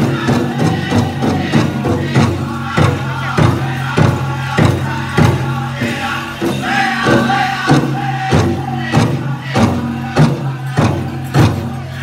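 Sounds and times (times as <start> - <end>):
group singing in unison: 0.0 - 12.0
large drum steady beat: 0.0 - 12.0.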